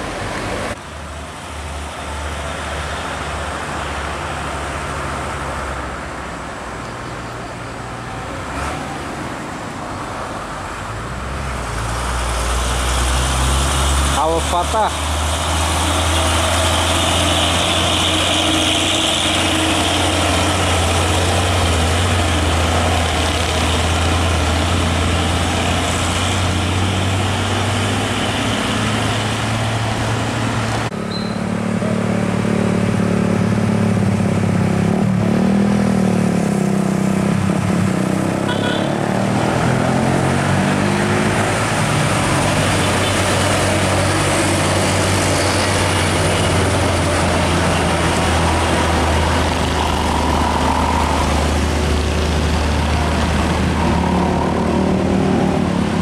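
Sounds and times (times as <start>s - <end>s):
truck engine shifting gears: 10.9s - 56.0s
truck driving past: 11.0s - 56.0s.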